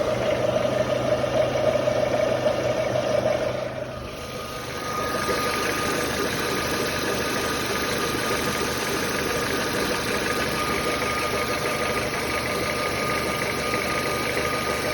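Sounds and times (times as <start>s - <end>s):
car engine idling: 0.0s - 14.9s
rapid engine knock: 0.0s - 14.9s.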